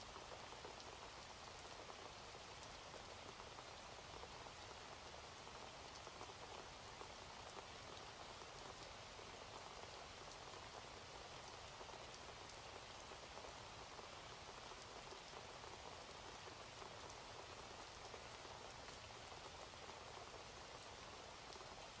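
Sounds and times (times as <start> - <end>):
light rain patter: 0.0 - 22.0.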